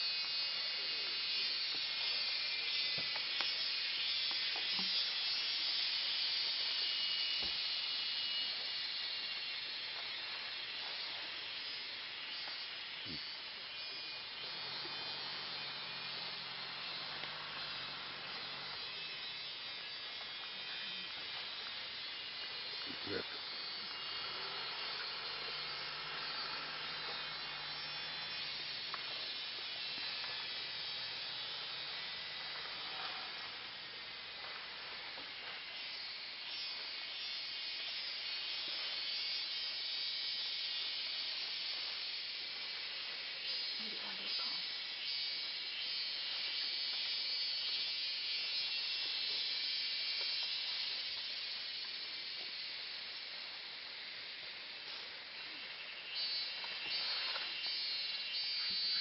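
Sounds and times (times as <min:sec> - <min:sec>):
insect chorus hissing: 0:00.0 - 0:59.0.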